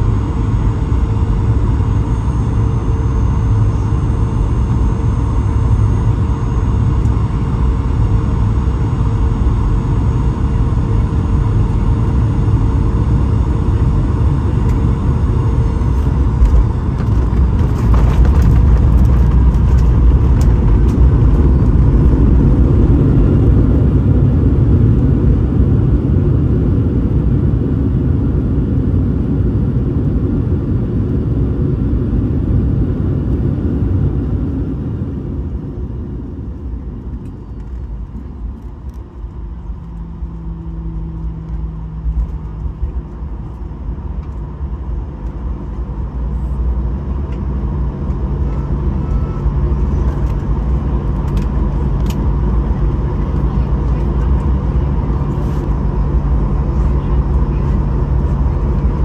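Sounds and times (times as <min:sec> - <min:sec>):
jet engines roaring in cabin: 0:00.0 - 0:59.0
low hum: 0:00.0 - 0:59.0.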